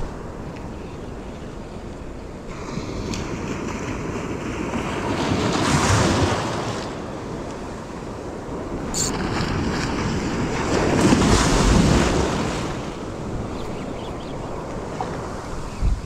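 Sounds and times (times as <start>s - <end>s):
surf washing on a beach: 0.0s - 16.0s
wind buffeting microphone: 0.0s - 16.0s.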